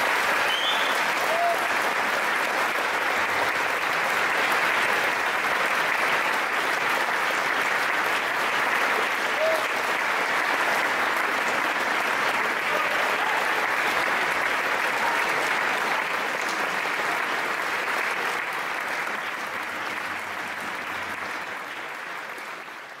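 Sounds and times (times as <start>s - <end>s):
audience applauding: 0.0s - 23.0s.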